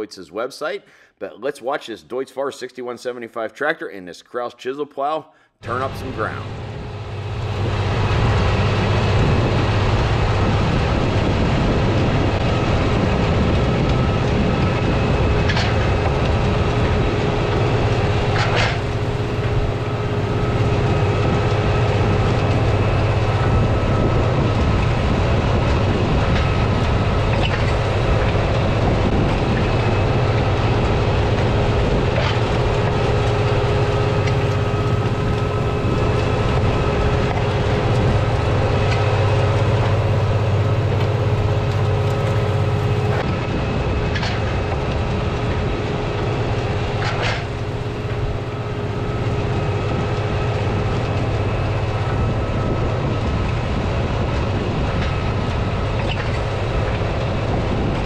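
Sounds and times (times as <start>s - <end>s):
tractor diesel engine under load: 5.6s - 58.0s.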